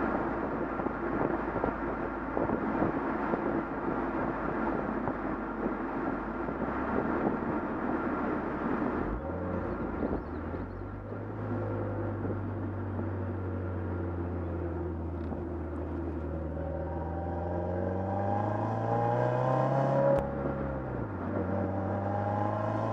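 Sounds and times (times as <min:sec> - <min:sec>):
car engine exhaust drone: 0:00.0 - 0:22.9
wind and road noise: 0:00.0 - 0:22.9.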